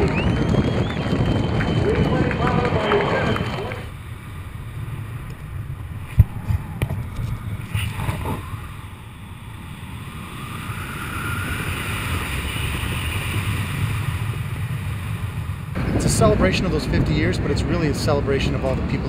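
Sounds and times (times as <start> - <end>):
wind buffeting microphone: 0.0 - 19.0
hissing rush: 1.8 - 17.5.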